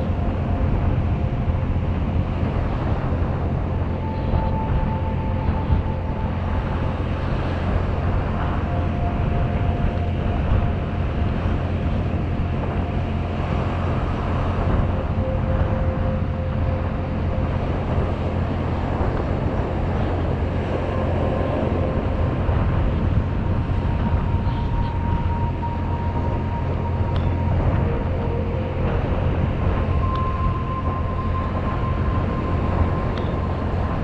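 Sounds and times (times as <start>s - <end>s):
wind buffeting microphone: 0.0s - 34.0s
faint held tones: 3.5s - 34.0s.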